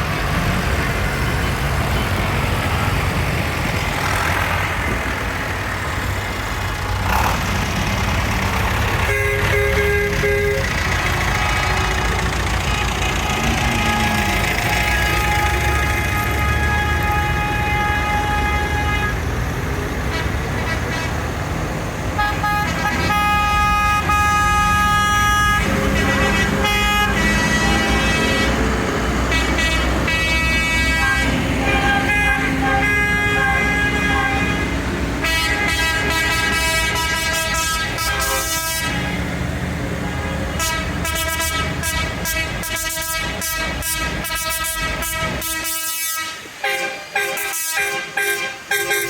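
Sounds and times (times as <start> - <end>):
tractor engines running: 0.0 - 45.8
horns blasting: 6.8 - 21.6, 22.2 - 49.0.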